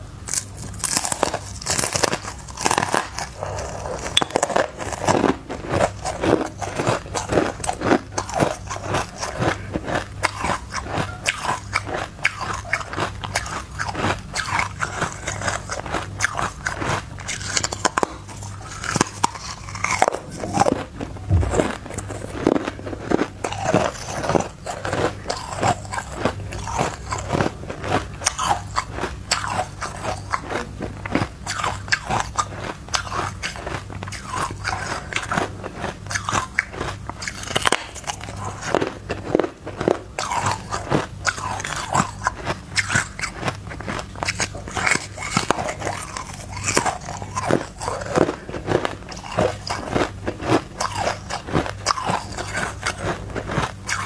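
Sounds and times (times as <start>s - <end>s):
ice crunching while chewed: 0.2s - 54.0s.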